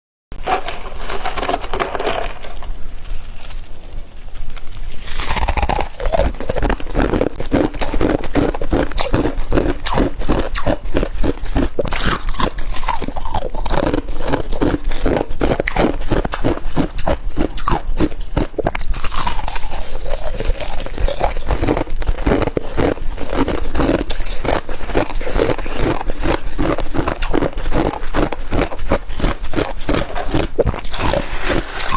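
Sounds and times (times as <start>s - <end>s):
freezer frost crunching and scraping: 0.4s - 31.9s.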